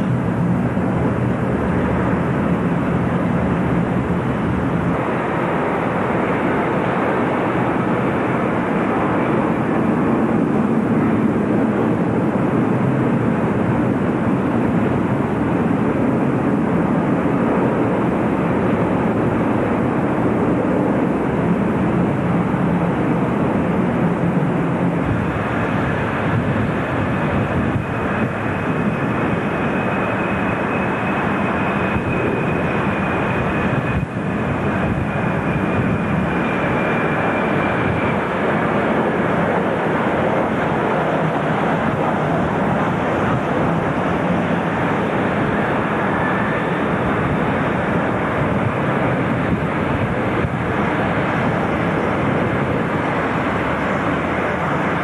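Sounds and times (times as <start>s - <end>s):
jet engine high whine: 0.0s - 55.0s
jet engine rumble: 0.0s - 55.0s.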